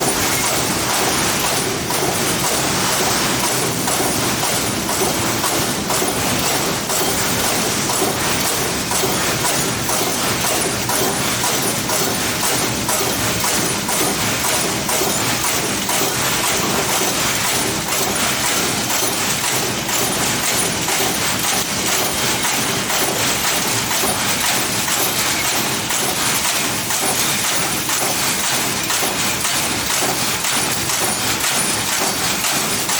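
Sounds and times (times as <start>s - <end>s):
machinery running: 0.0s - 32.9s.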